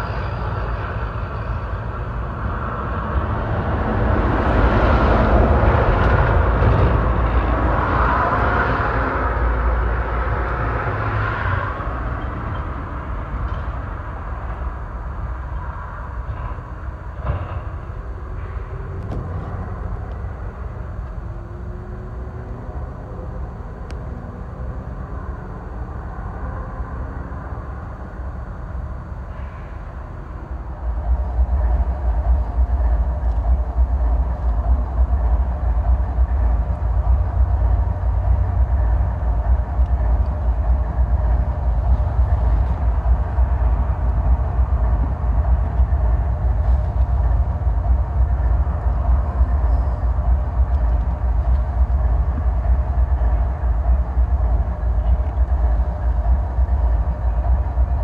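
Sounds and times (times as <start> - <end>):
diesel locomotives rumbling: 0.0 - 58.0
train rumble: 0.0 - 58.0.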